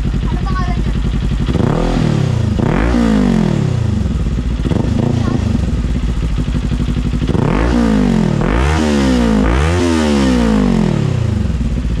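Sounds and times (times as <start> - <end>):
motorcycle engine revving from idle: 0.0 - 12.0.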